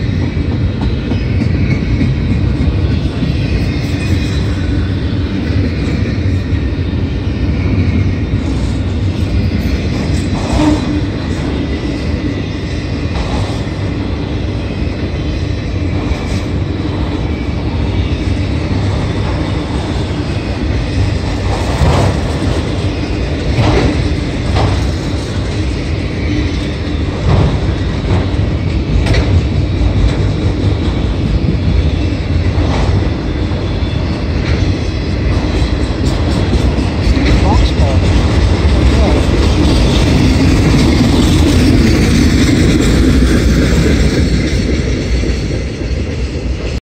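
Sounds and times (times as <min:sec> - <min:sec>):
steel wheels rumbling on rail: 0:00.0 - 0:46.8.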